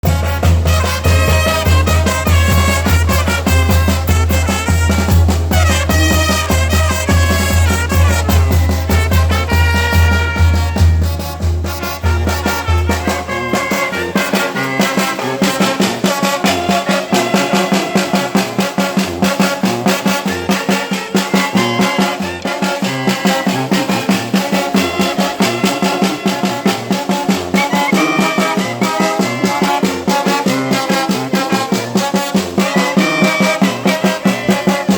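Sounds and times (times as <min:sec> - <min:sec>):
brass band playing: 0:00.0 - 0:34.9.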